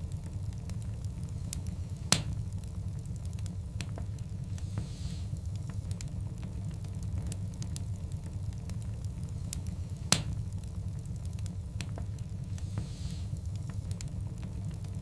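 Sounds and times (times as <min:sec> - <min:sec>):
low fire rumble: 0:00.0 - 0:15.0.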